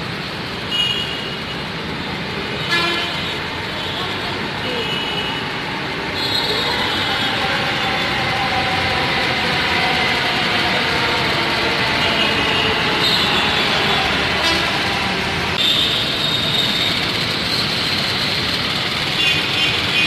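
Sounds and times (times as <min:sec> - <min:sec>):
train rolling noise: 0:00.0 - 0:20.0.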